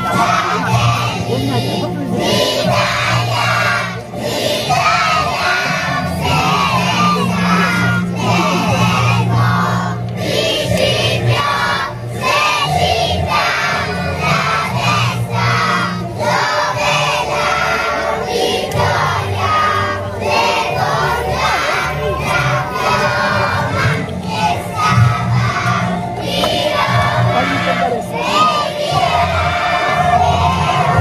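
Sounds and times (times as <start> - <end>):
children singing and shouting: 0.0 - 31.0
recorded song with bass line: 0.0 - 31.0.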